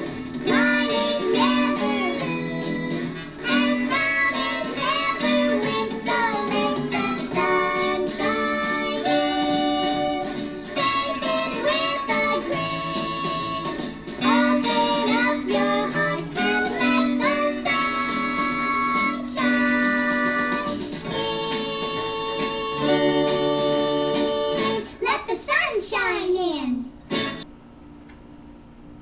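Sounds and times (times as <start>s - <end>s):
pop song with singing and guitar: 0.0s - 25.0s.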